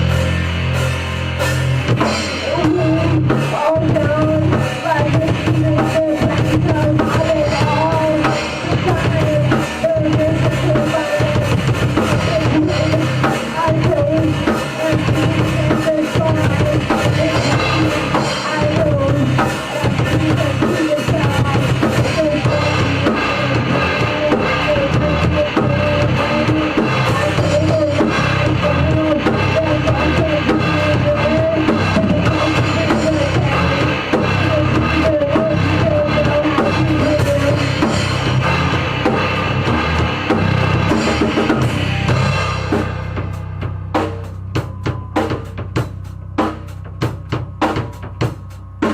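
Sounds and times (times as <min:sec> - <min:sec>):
electric guitar: 0:00.0 - 0:43.4
drum kit steady beat: 0:00.0 - 0:48.9.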